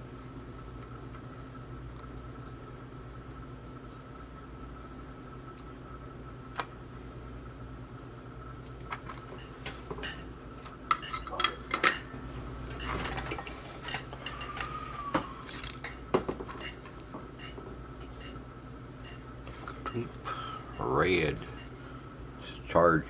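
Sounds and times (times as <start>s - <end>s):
faint hum with high tone: 0.0s - 23.0s.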